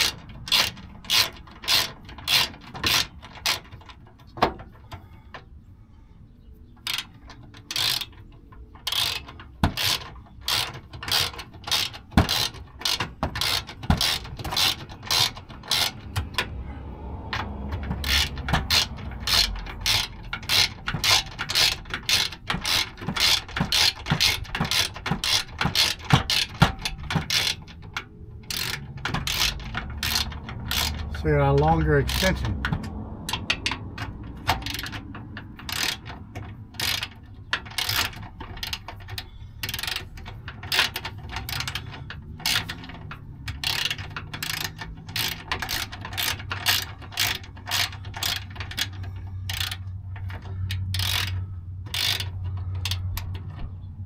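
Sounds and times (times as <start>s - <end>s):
ratchet wrench clicking: 0.0s - 5.0s, 6.8s - 54.0s.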